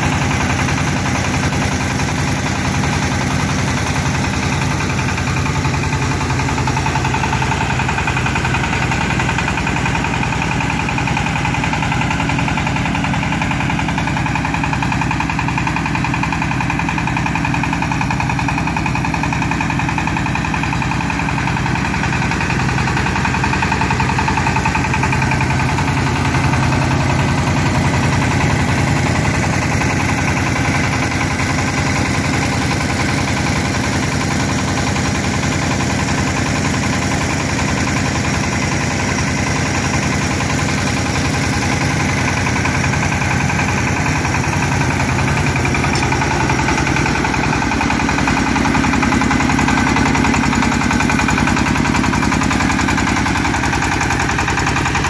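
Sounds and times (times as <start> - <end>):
drilling rig engine running: 0.0 - 55.0.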